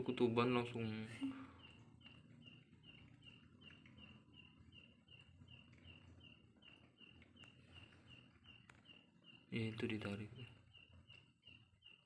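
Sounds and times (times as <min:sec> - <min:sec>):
faint insect chirping: 0:00.0 - 0:12.0.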